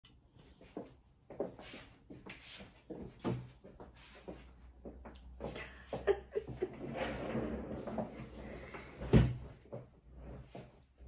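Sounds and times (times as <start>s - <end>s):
rustling and shuffling: 0.4s - 11.0s.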